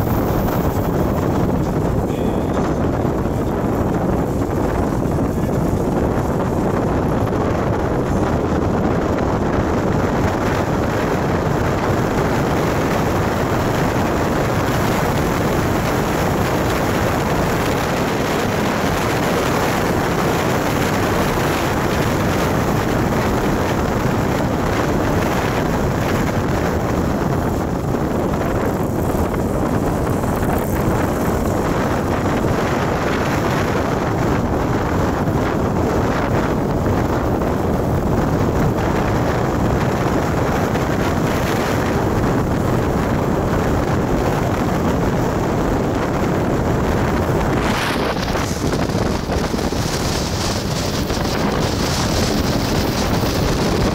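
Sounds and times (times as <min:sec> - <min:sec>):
vehicle road and engine noise: 0:00.0 - 0:53.9
wind on microphone: 0:00.0 - 0:53.9.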